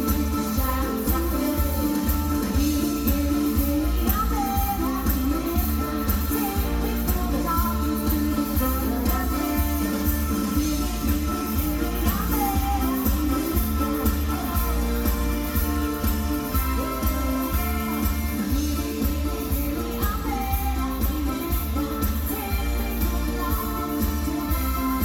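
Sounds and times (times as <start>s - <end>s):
live band music: 0.0s - 25.0s
person singing: 0.0s - 25.0s
steady bass: 0.0s - 25.0s.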